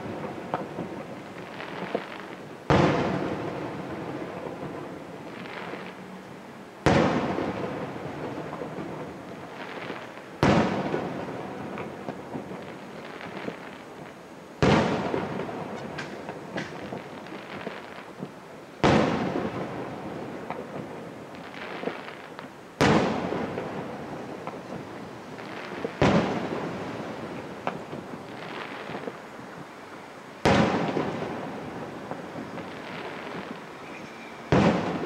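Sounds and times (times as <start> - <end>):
small firework pops: 0.0 - 6.0, 6.8 - 29.8, 30.4 - 35.0.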